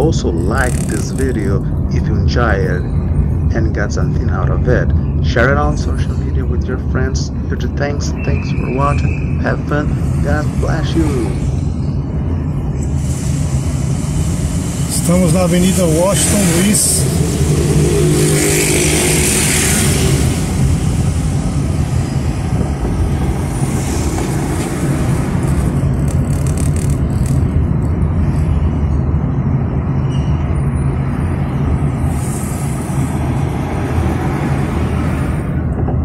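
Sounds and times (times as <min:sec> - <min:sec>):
car engine hum: 0:00.0 - 0:30.0
road noise: 0:00.0 - 0:36.0.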